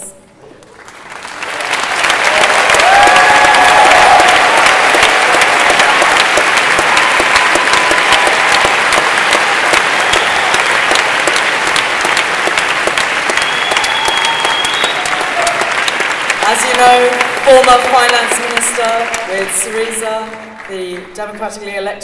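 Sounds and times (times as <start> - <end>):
audience applauding: 0.6 - 21.4.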